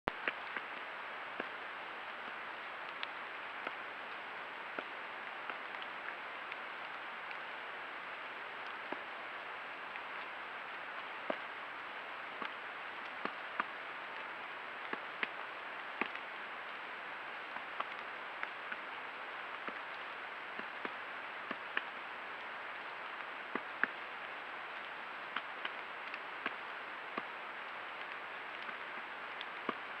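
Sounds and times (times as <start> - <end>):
steady hiss: 0.1 - 30.0.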